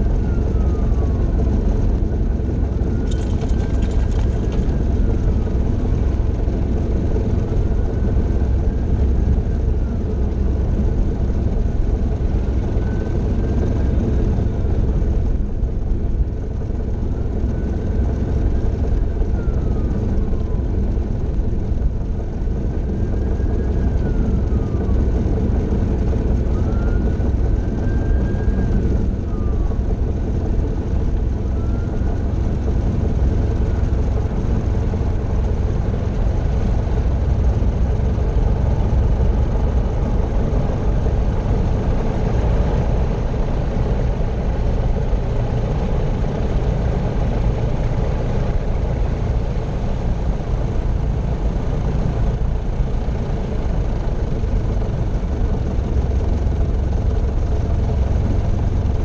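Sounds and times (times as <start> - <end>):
aircraft engine rumbling: 0.0 - 59.0.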